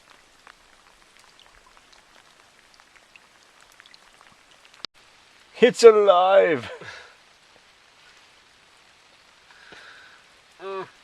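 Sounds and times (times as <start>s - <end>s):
light rain hiss: 0.0s - 11.0s
raindrops ticking: 0.0s - 11.0s.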